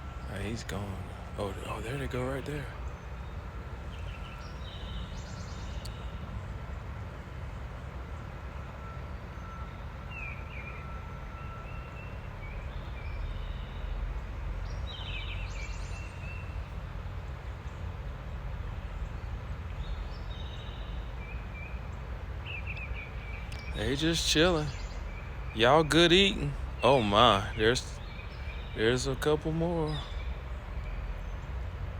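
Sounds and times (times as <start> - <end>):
birds calling: 0.0 - 31.9.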